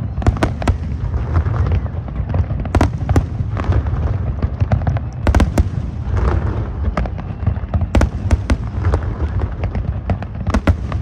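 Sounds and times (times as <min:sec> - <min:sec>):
fireworks bangs and crackles: 0:00.0 - 0:11.0
low rumble of distant explosions: 0:00.0 - 0:11.0.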